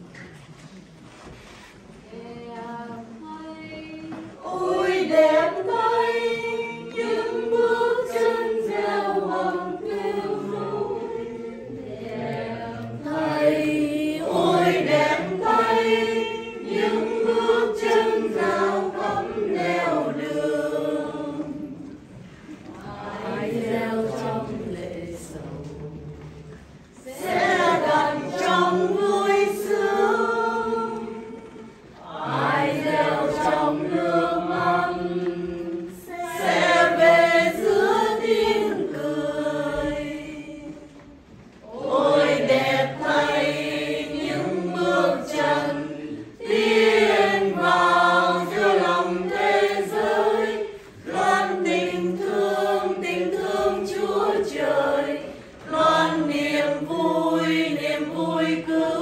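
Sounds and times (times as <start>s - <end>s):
congregation singing a hymn: 0.9s - 59.0s.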